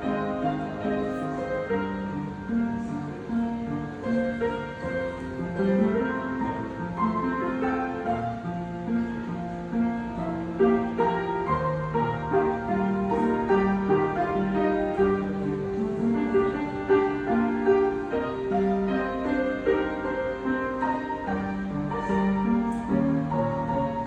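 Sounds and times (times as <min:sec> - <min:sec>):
piano playing slow melody: 0:00.0 - 0:24.0.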